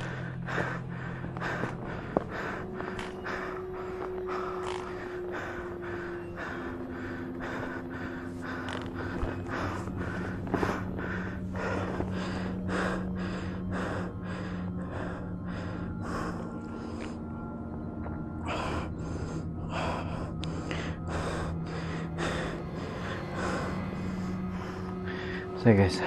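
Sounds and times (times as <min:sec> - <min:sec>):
person breathing hard: 0:00.0 - 0:25.6
steady low hum: 0:00.0 - 0:26.0.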